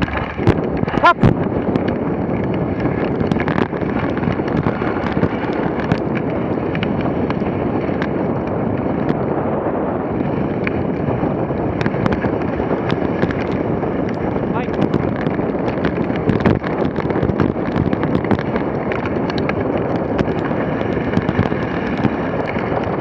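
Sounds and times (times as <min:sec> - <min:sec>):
sharp clicks and knocks: 0:00.0 - 0:08.2, 0:11.7 - 0:22.8
sled runners on snow: 0:00.0 - 0:23.0
wind on microphone: 0:00.0 - 0:23.0.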